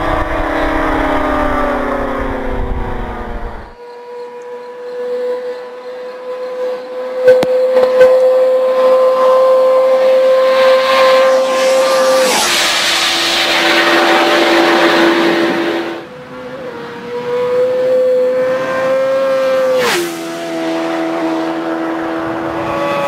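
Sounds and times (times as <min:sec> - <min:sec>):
motorcycle passing at full throttle: 0:00.0 - 0:23.0.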